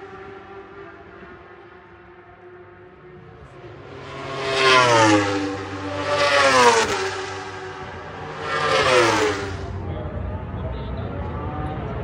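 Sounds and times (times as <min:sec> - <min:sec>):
racing vehicles passing by: 0:00.0 - 0:12.0.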